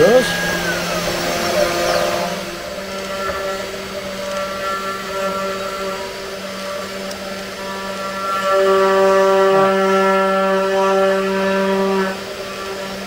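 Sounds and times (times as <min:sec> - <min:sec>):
router spindle whining: 0:00.0 - 0:13.0.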